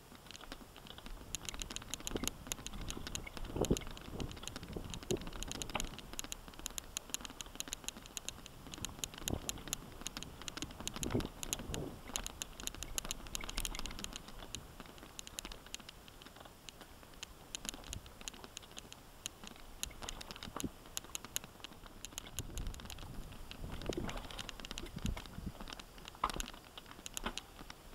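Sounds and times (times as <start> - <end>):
bike tyres rattling on stones: 0.2 - 27.9.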